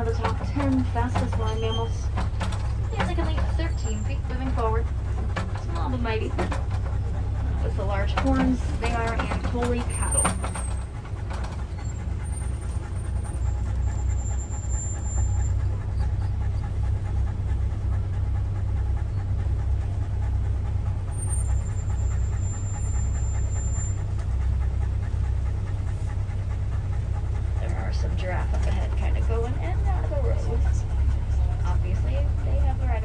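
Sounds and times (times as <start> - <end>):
truck bumping on dirt road: 0.0 - 33.0
truck engine rumble: 0.0 - 33.0.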